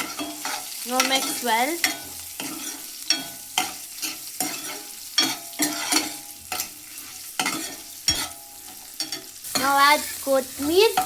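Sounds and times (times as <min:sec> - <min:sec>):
frying sizzle: 0:00.0 - 0:11.0
spoon scraping a pan: 0:00.0 - 0:11.0.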